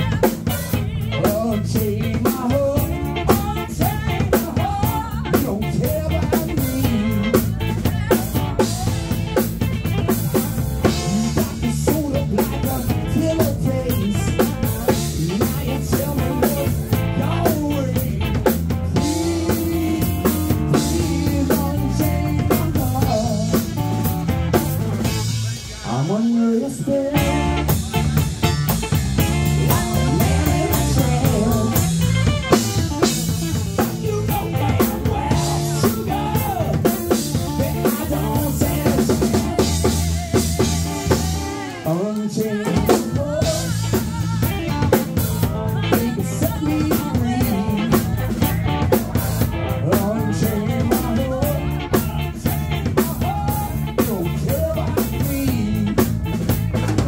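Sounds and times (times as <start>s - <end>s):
live blues band playing: 0.0s - 57.0s.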